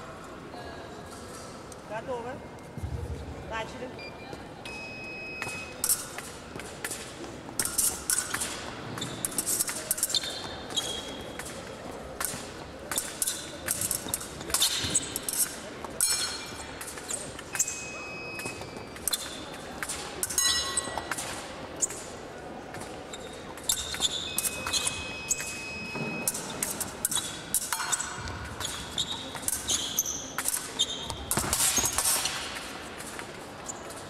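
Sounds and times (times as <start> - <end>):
fencing blades clashing: 5.4 - 34.0.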